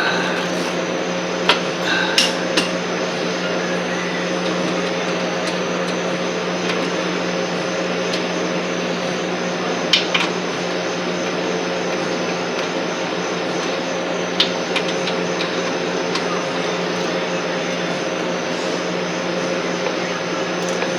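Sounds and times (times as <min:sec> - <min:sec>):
machine drone: 0:00.0 - 0:20.9.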